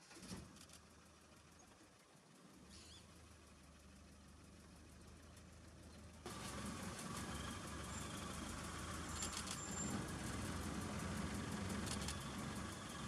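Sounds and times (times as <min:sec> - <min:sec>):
vehicle engine idling: 0:00.1 - 0:13.0.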